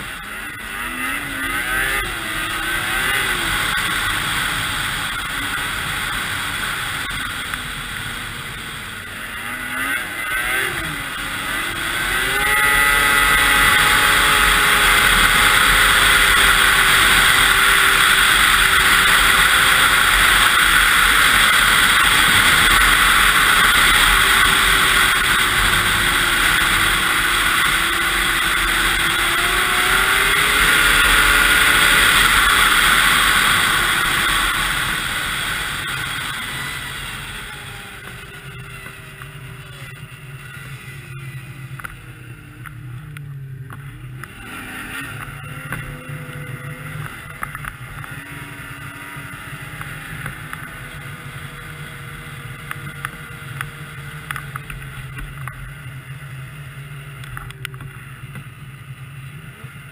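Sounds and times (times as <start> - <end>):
rush of wind and snow: 0.0 - 59.9
snowmobile engine: 0.0 - 59.9.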